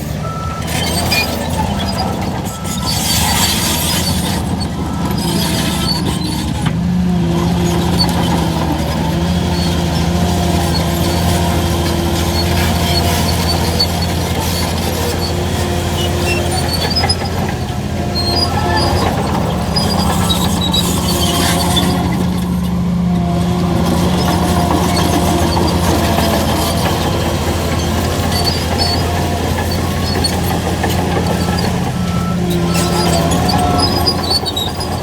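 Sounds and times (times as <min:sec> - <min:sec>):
high metallic squeaks: 0:00.0 - 0:06.6, 0:07.6 - 0:22.9, 0:23.6 - 0:35.0
bulldozer diesel engine running: 0:00.0 - 0:35.0.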